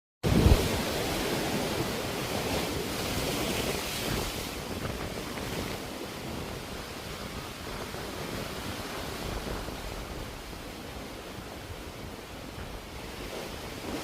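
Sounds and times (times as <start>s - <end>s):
sea waves washing onto shore: 0.2s - 14.0s
wind buffeting microphone: 0.2s - 14.0s.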